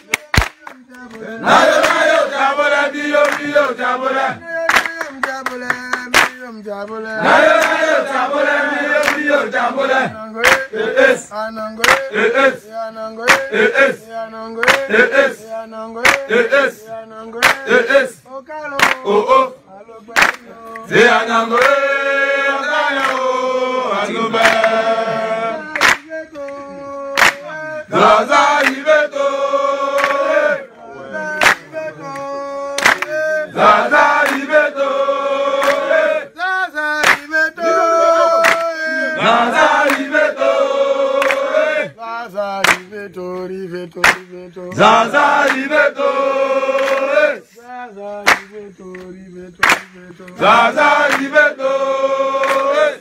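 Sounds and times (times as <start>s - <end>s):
group singing a chant: 0.0s - 53.0s.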